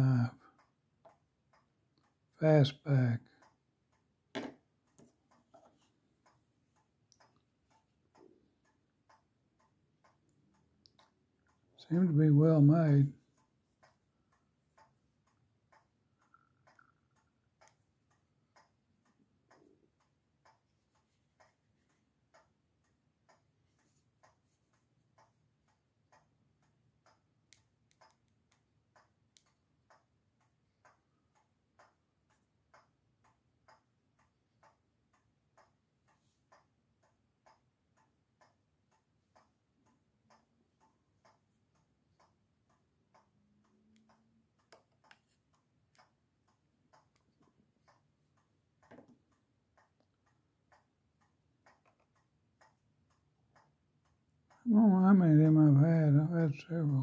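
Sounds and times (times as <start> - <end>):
clock ticking faintly: 0.0 - 57.0.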